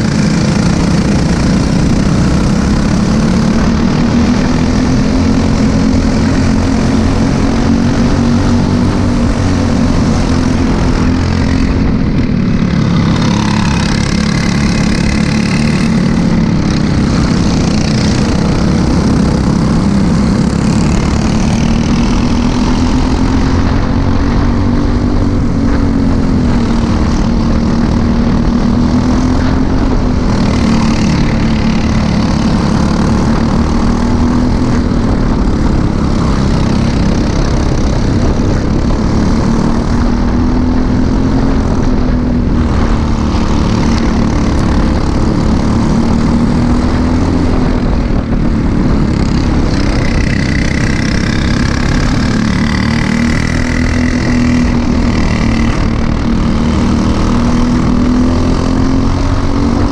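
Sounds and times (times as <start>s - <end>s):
kart engine running hard: 0.0s - 59.9s
other kart engines: 0.0s - 59.9s.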